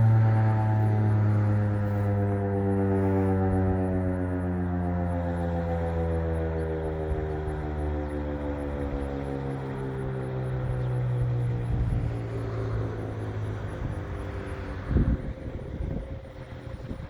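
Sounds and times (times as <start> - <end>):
distant siren tone: 0.0 - 17.0
warning siren winding down: 0.0 - 17.0.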